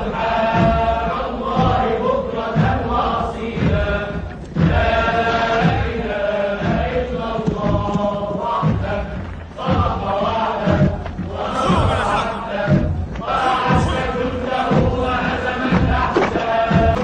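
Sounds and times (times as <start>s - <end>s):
voices singing held notes: 0.0s - 17.0s.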